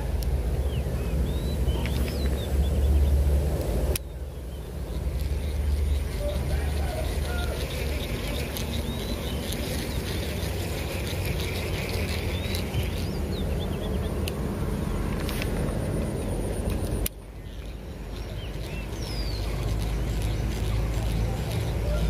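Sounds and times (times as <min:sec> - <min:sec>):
steady rumbling: 0:00.0 - 0:22.0
birds chirping: 0:00.6 - 0:03.3, 0:04.0 - 0:14.3, 0:15.8 - 0:22.0.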